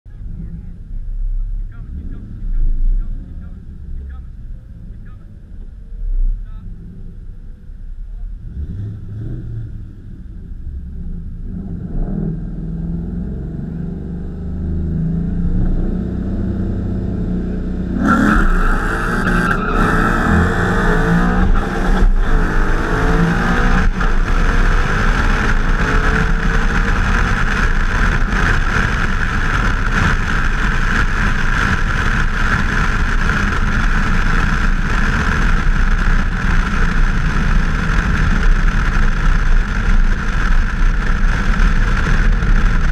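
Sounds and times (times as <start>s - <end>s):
car engines idling and revving: 0.1s - 42.9s
wind and road noise: 0.1s - 42.9s
engine at full throttle: 6.4s - 42.9s.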